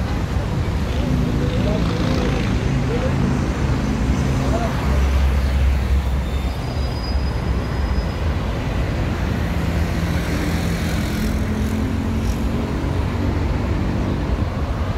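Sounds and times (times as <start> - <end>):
cars and buses passing: 0.0 - 14.9.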